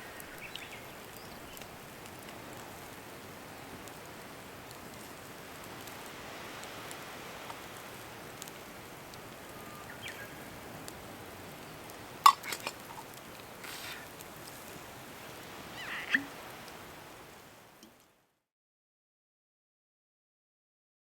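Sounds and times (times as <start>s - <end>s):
campfire crackling: 0.0s - 18.2s.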